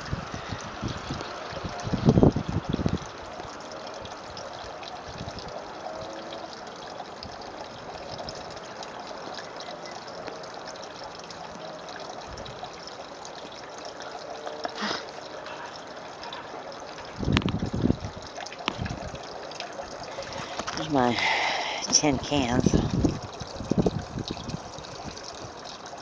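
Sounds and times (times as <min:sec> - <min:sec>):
trickling running water: 0:00.0 - 0:26.0.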